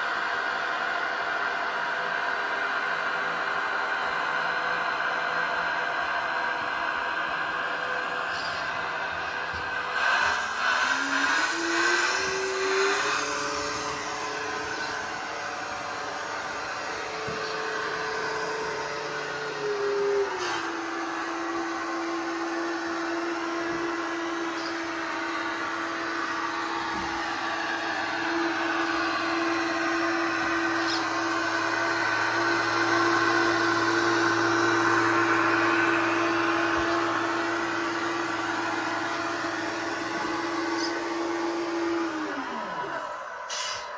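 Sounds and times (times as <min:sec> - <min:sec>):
rc truck motor whine: 0:00.0 - 0:43.9.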